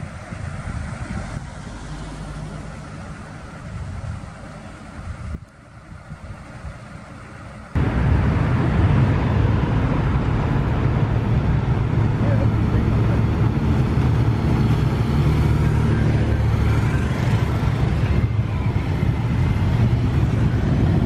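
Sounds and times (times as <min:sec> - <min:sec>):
low outdoor rumble: 0:00.0 - 0:21.0
motorcycle engines: 0:00.0 - 0:21.0.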